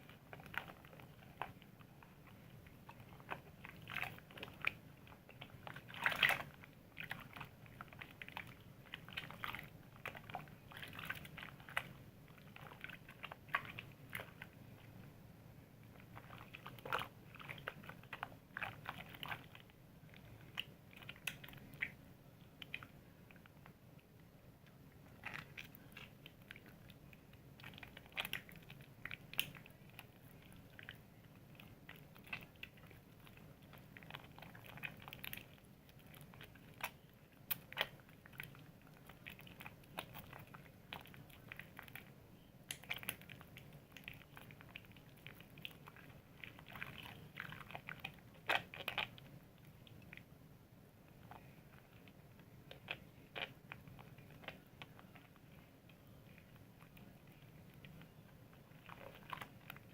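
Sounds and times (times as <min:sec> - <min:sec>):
soap lather squishing: 0:00.0 - 0:50.4, 0:51.0 - 0:59.9.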